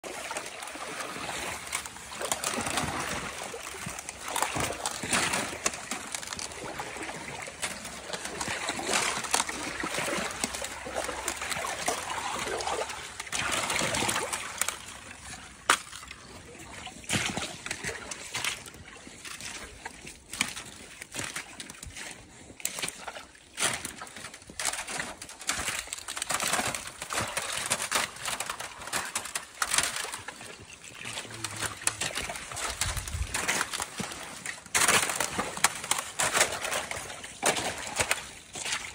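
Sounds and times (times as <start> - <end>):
boots wading through water: 0.0 - 38.9.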